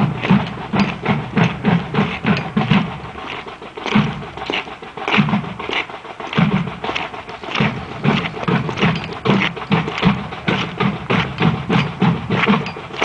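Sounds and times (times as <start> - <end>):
snare drum and stick clicks: 0.2 - 13.0.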